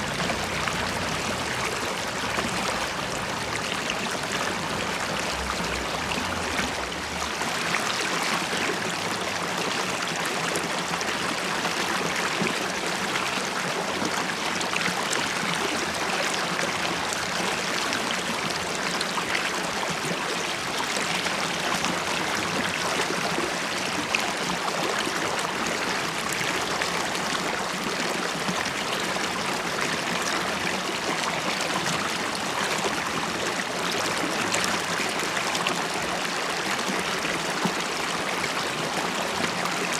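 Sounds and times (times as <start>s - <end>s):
river water bubbling: 0.0s - 39.9s
water gurgles and splashes: 0.0s - 39.9s.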